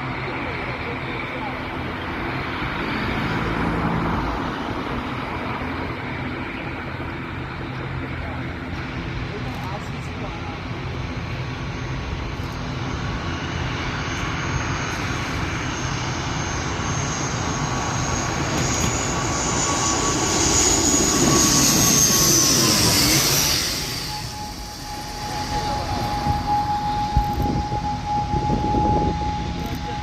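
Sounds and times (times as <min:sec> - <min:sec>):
airliner passing overhead: 0:00.0 - 0:30.0.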